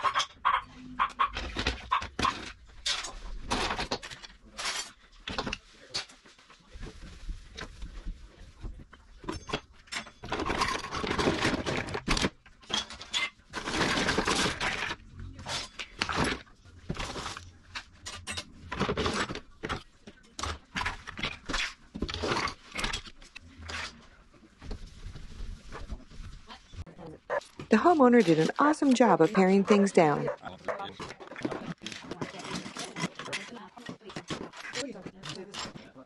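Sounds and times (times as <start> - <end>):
utensils and plastic cups clattering: 1.2 - 7.0, 8.6 - 24.0, 27.4 - 36.0.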